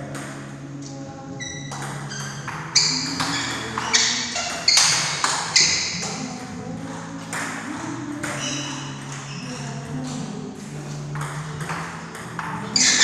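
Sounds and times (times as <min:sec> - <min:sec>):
table tennis ball hits: 0:00.0 - 0:00.7, 0:01.4 - 0:13.0.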